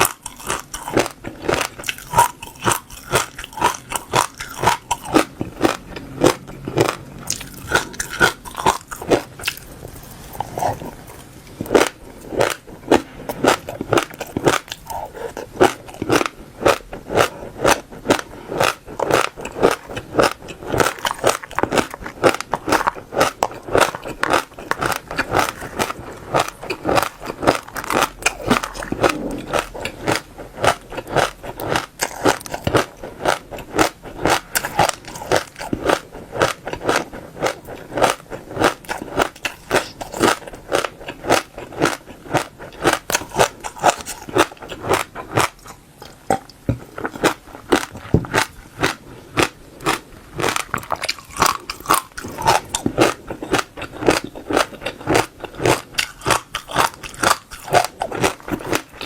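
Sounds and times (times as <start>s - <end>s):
crunchy seeds being chewed: 0.0s - 59.0s.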